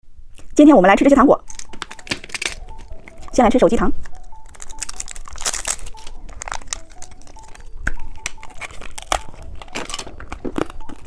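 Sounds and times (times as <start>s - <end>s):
plastic packaging crinkling: 1.4s - 11.0s.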